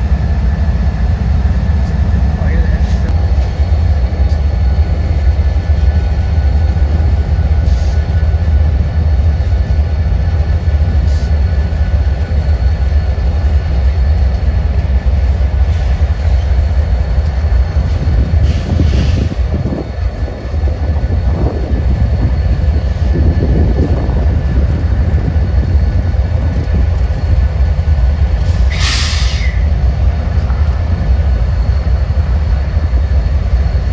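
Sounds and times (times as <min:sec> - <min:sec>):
train rumbling past: 0:00.0 - 0:33.9
train wheels clicking: 0:00.0 - 0:33.9.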